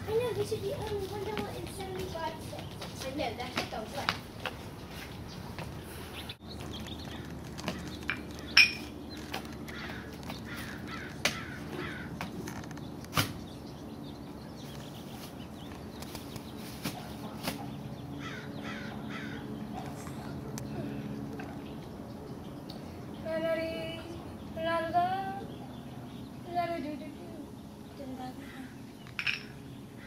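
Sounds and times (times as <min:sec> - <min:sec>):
birds calling: 0:00.0 - 0:30.0.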